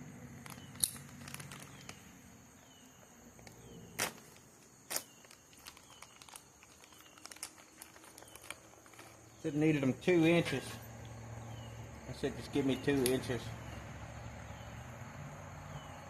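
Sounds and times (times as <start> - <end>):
insect buzz: 0.0 - 16.0.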